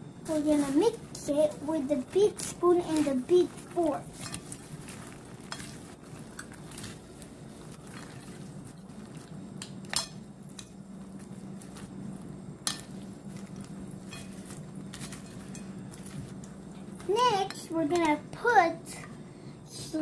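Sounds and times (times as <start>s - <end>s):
faint steady hum: 0.0s - 20.0s
popcorn and fries rustling: 0.2s - 20.0s.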